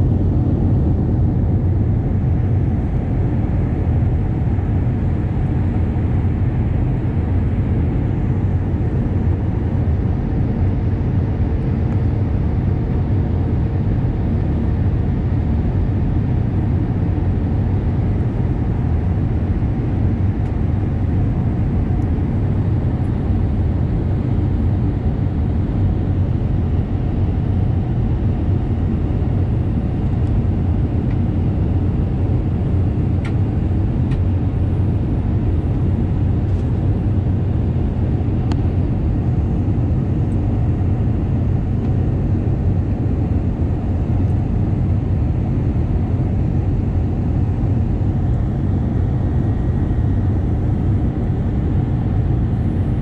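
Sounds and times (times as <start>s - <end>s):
aircraft cockpit rumble: 0.0s - 53.0s.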